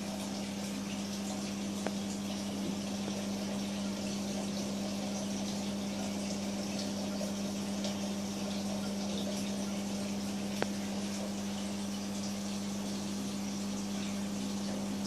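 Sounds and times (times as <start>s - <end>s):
aquarium pumps humming: 0.0s - 15.0s
hiss of circulating water: 0.0s - 15.0s.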